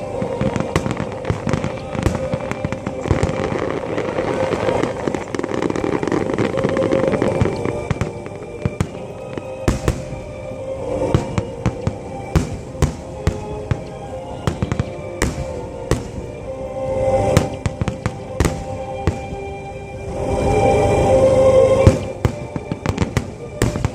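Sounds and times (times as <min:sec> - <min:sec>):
fireworks bangs: 0:00.0 - 0:16.4, 0:17.2 - 0:21.0, 0:21.6 - 0:23.9
fireworks bursting and crackling: 0:00.0 - 0:23.9
music over loudspeakers: 0:00.0 - 0:23.9.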